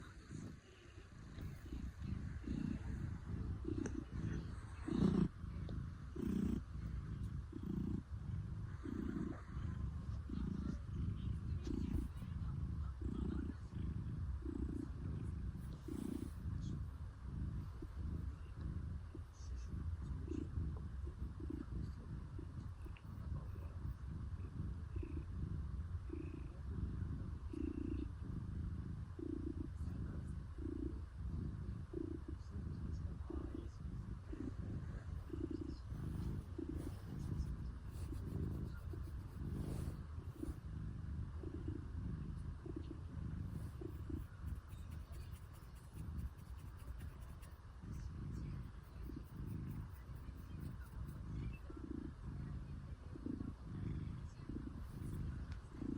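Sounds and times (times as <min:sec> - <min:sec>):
cat purring: 0:00.0 - 0:55.9.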